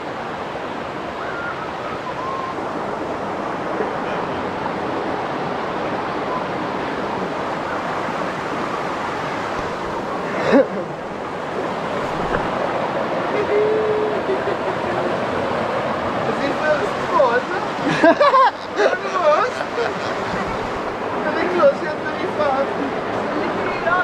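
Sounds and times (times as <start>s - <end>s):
rushing river water: 0.0s - 24.0s.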